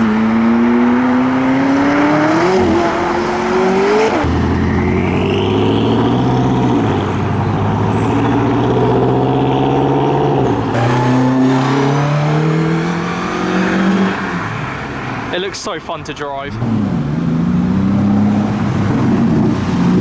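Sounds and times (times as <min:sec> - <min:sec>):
car engine accelerating through gears: 0:00.0 - 0:14.9, 0:16.6 - 0:20.0.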